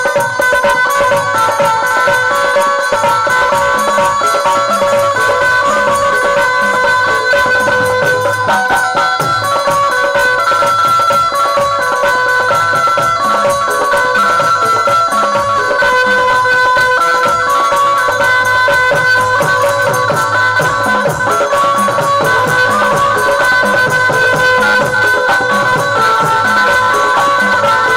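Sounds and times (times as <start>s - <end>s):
hand drum rhythm: 0.0s - 27.9s
jingling percussion: 0.0s - 27.9s.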